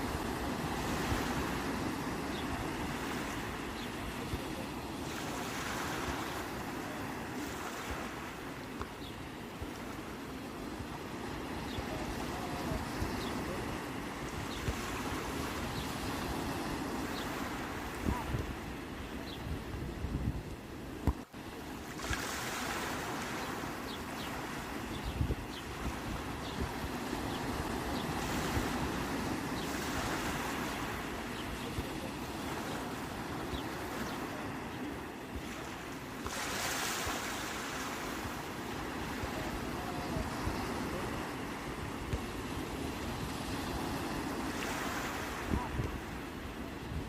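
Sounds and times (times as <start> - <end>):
waves breaking: 0.0 - 19.3, 20.5 - 47.0
sea waves washing ashore: 0.0 - 47.0.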